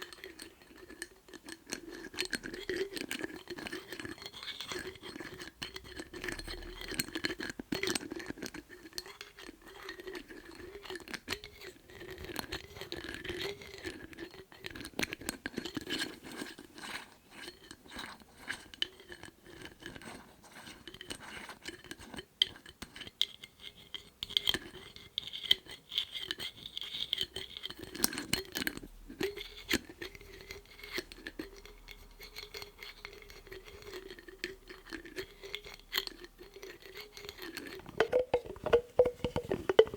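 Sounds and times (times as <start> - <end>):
lids tapped and scratched: 0.0 - 39.9.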